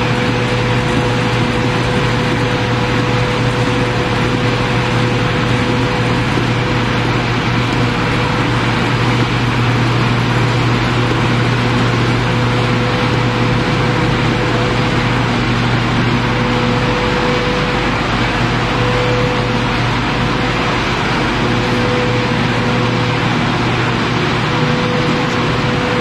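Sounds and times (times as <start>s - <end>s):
machine mechanical hum: 0.0s - 26.0s
thin machine whine: 0.0s - 26.0s.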